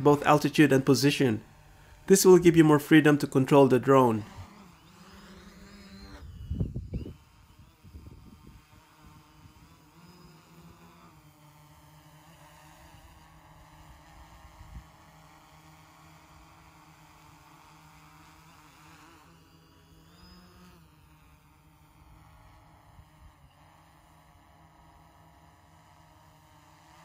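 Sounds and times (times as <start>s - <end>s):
quadcopter propellers buzzing: 0.0s - 27.0s.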